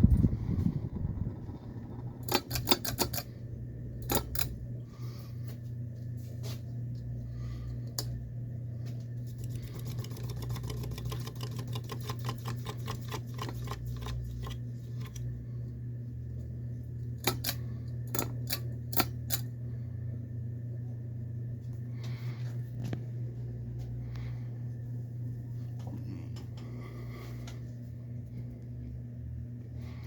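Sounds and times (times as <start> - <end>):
ceiling fan motor humming: 0.0 - 30.0.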